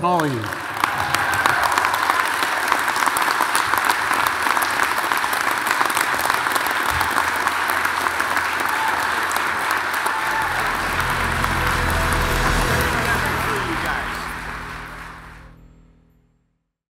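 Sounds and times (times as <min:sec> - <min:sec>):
large audience applauding: 0:00.0 - 0:15.5.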